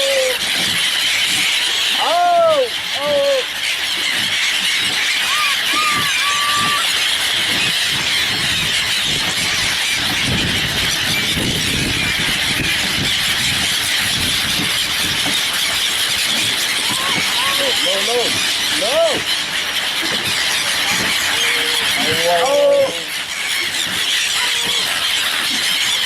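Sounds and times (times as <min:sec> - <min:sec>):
flock of birds chattering: 0:00.0 - 0:26.0.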